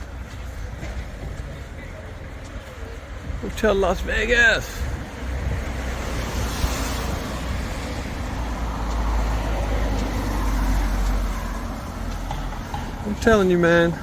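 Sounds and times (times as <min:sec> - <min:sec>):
vehicle passing on street: 0:00.0 - 0:14.0.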